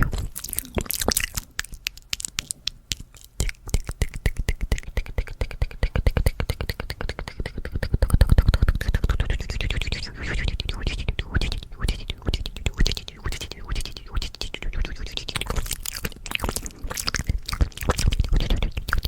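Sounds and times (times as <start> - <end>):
wet mouth clicks and pops: 0.0 - 19.0.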